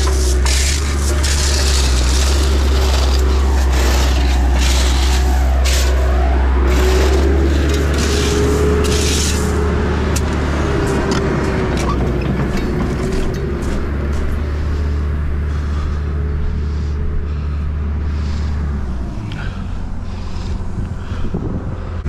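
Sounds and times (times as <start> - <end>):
diesel engine rumbling: 0.0 - 22.0
hydraulic whine: 0.0 - 22.0.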